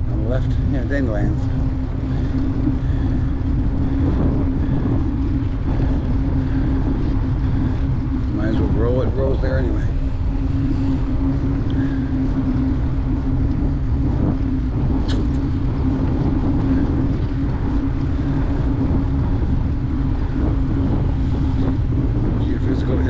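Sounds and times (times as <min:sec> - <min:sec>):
bicycle tyres rolling on pavement: 0:00.0 - 0:23.0
wind buffeting microphone: 0:00.0 - 0:23.0.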